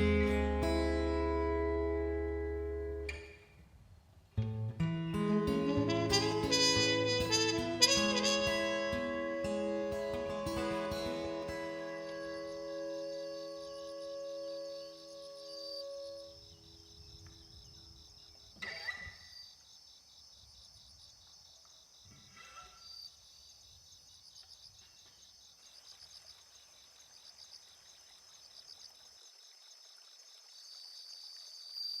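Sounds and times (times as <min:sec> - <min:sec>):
crickets chirping: 0:05.6 - 0:32.0.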